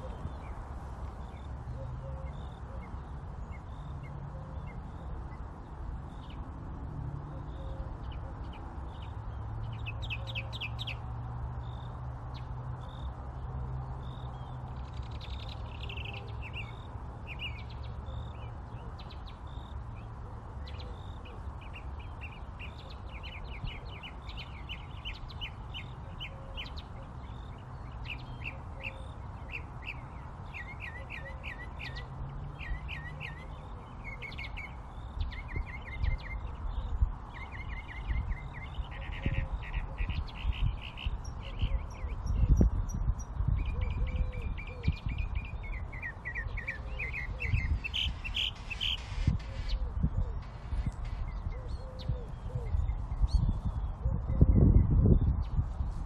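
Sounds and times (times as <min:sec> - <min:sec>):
small birds chirping: 0:07.2 - 0:55.6.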